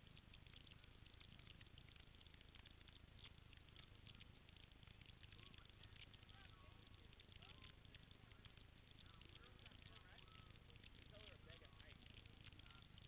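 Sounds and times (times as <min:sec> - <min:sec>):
light ticks: 0:00.0 - 0:13.0.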